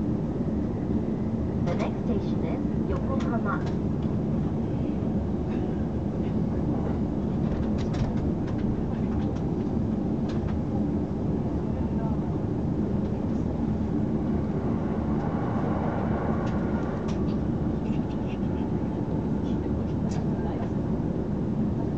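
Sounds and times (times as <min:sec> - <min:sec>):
train wheels rumbling on rail: 0:01.6 - 0:21.9.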